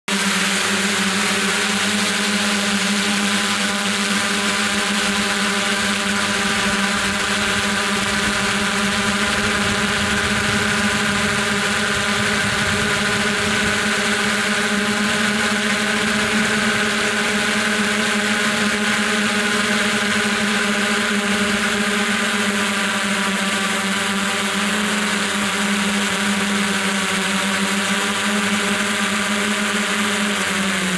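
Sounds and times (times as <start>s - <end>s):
drone propellers buzzing: 0.1s - 30.9s.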